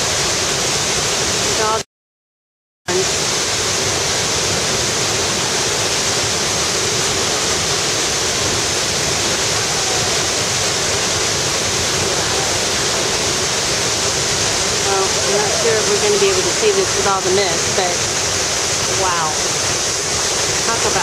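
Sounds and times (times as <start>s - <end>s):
waterfall rushing: 0.0s - 1.8s, 2.9s - 21.0s.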